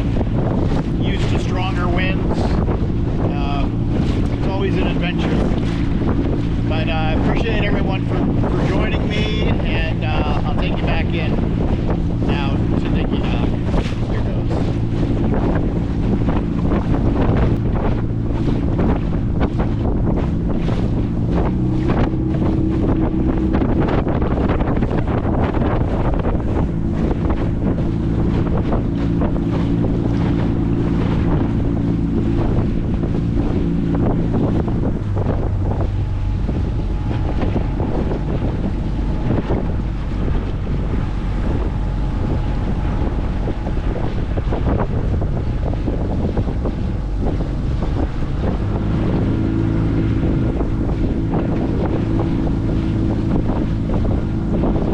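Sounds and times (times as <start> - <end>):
outboard motor running: 0.0 - 54.9
wind on microphone: 0.0 - 54.9.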